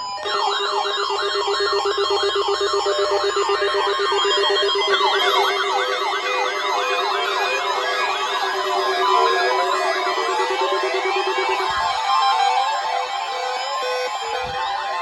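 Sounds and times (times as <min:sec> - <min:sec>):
electronic siren alarm wailing: 0:00.0 - 0:15.0
second sweeping alarm: 0:00.0 - 0:15.0.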